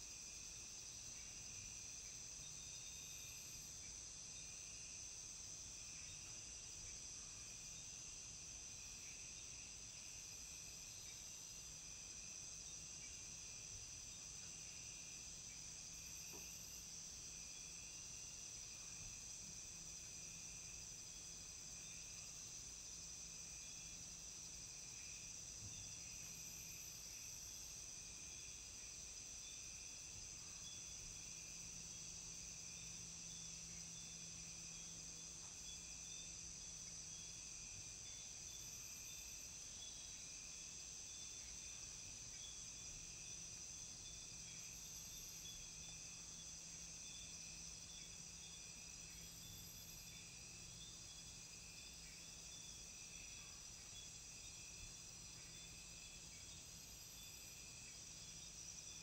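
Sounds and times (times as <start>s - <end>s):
insects droning and chirping: 0.0s - 59.0s
very high insect notes: 0.0s - 59.0s.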